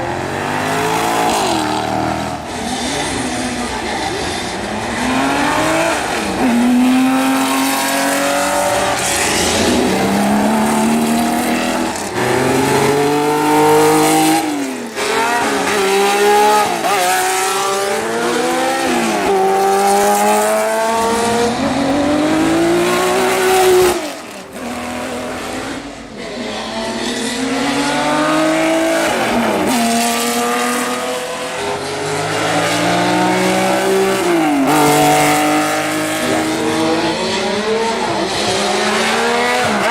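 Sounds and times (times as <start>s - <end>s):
car engines accelerating through gears: 0.0s - 39.9s.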